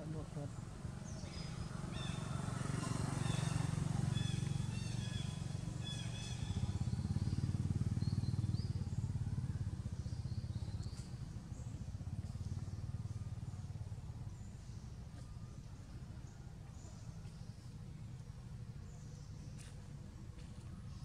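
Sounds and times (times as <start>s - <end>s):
motorcycle engine humming: 0.0s - 21.0s.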